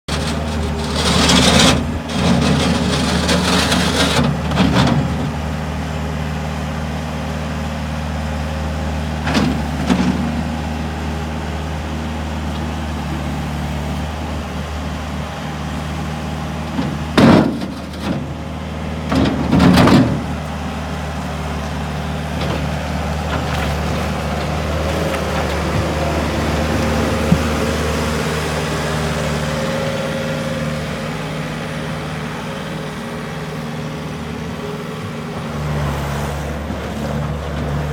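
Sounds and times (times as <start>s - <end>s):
diesel engine idling: 1.8s - 37.9s.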